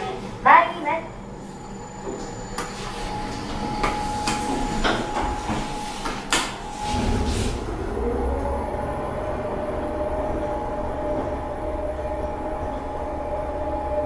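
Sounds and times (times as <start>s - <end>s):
elevator car rumbling: 1.1s - 14.0s
elevator doors sliding shut: 2.1s - 13.9s.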